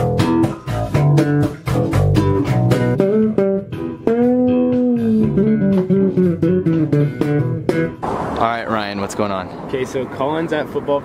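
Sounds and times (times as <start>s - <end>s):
electric bass plucked notes: 0.0s - 9.0s.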